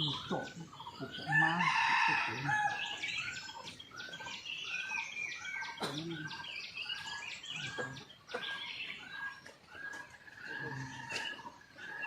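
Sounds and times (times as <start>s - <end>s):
higher bird chirps: 0.0s - 12.0s.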